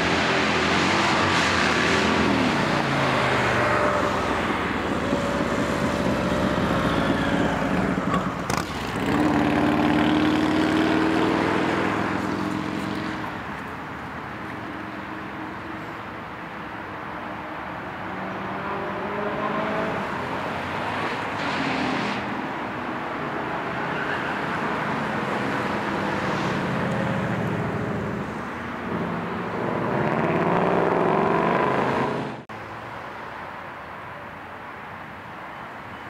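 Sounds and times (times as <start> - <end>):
car engines revving: 0.0 - 32.6.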